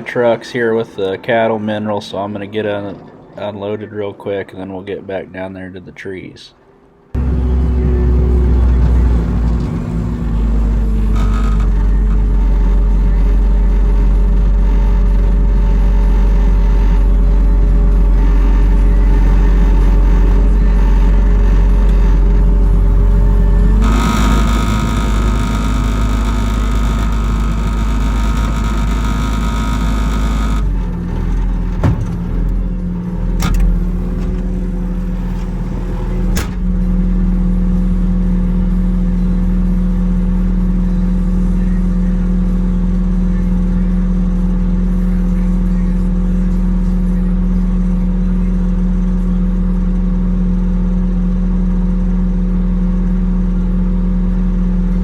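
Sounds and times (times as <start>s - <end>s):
heavy equipment engine running: 7.1s - 55.0s.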